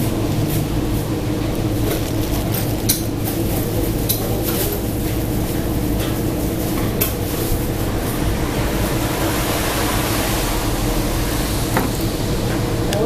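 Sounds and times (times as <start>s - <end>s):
ventilation hum and rushing: 0.0s - 13.0s.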